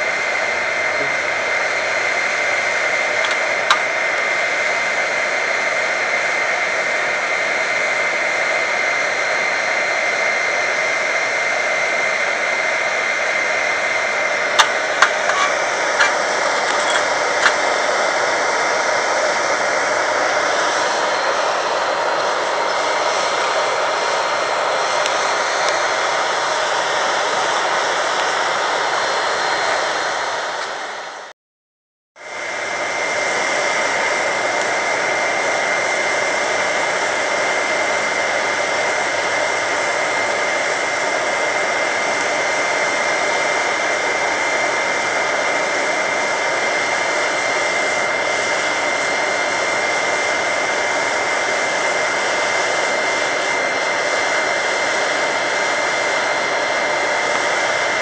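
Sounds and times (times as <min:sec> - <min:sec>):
forced-air blast roaring: 0:00.0 - 0:06.4, 0:07.9 - 0:31.2, 0:32.2 - 0:58.0
high motor whine: 0:00.0 - 0:31.2, 0:32.2 - 0:58.0.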